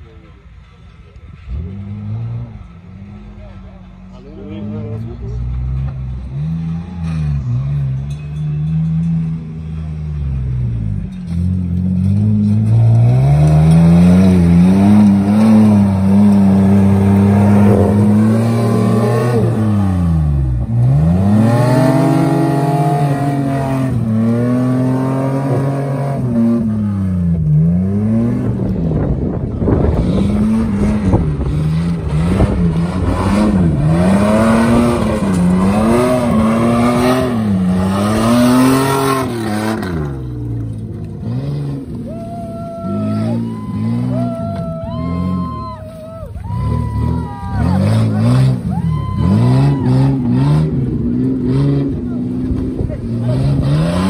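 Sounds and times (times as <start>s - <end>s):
car engine revving: 0.2s - 45.4s, 46.6s - 54.0s.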